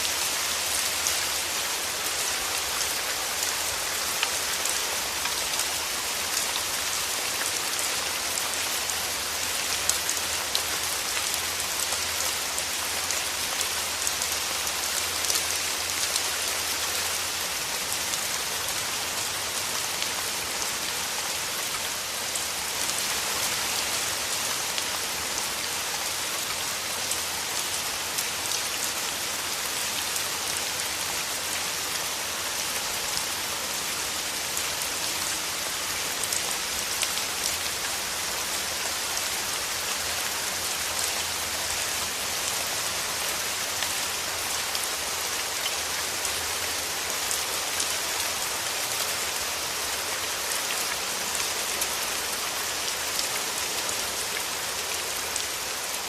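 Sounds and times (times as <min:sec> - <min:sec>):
rain falling through trees: 0:00.0 - 0:56.0.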